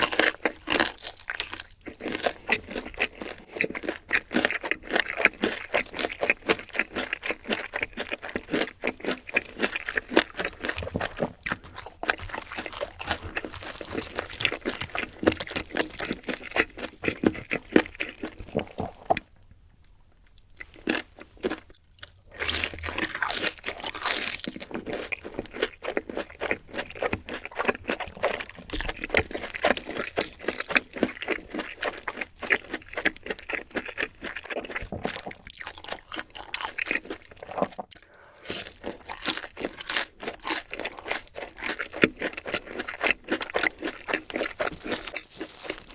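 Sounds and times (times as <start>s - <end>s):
crunching crispy food: 0.0s - 19.3s, 20.6s - 45.9s.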